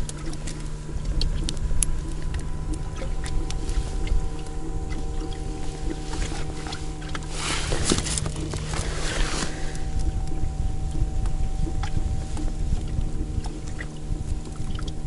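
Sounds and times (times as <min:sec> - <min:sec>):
boat motor humming: 0:00.0 - 0:15.0
wind rumble on microphone: 0:00.0 - 0:15.0.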